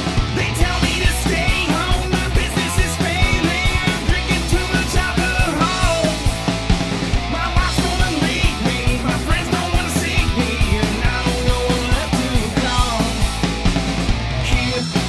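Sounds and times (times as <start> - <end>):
driving drum beat: 0.0 - 15.0
rock song: 0.0 - 15.0.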